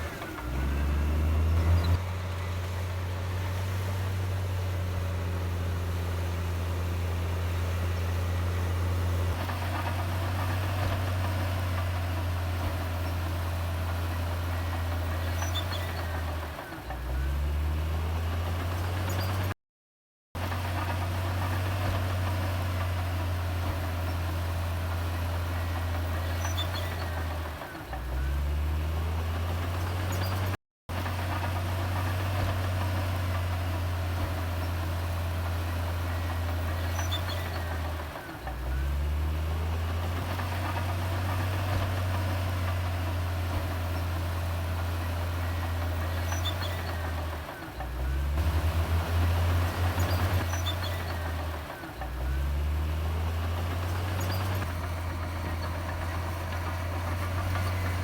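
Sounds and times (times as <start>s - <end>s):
bulldozer diesel engine running: 0.0s - 19.6s, 20.4s - 58.0s.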